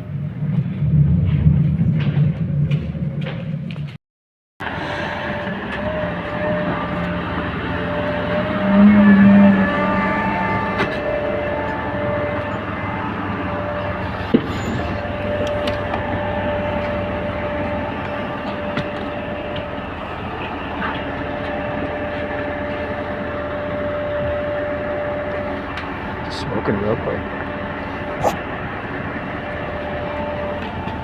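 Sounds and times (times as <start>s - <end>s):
train rumbling with whine: 0.0s - 4.0s, 4.6s - 31.0s.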